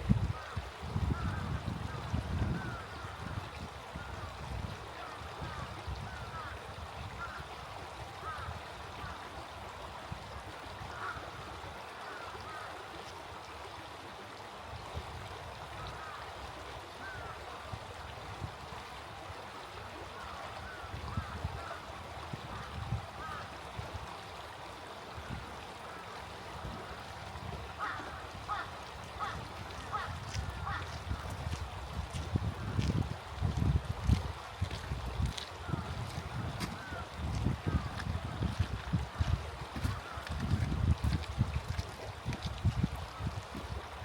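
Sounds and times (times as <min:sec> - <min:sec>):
stream flowing: 0:00.0 - 0:44.0
water birds chirping: 0:00.0 - 0:44.0.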